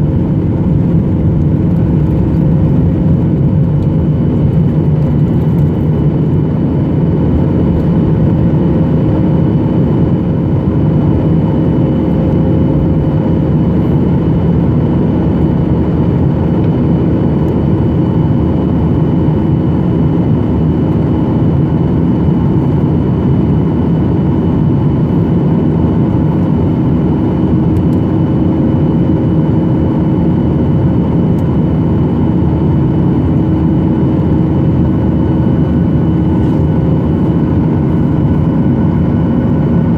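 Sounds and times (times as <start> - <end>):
jet engines heard in cabin: 0.0 - 39.9.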